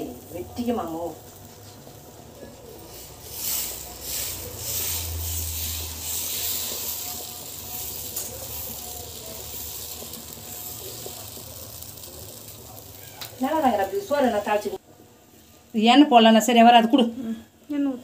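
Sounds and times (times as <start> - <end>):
batter sizzling in a pan: 0.0 - 18.0.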